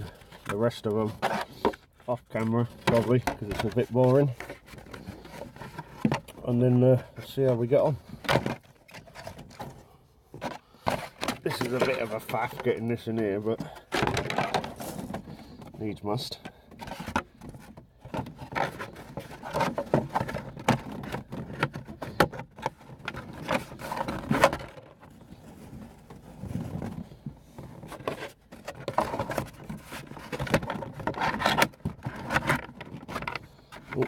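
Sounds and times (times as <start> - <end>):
plastic scraping on plastic: 0.0 - 34.0.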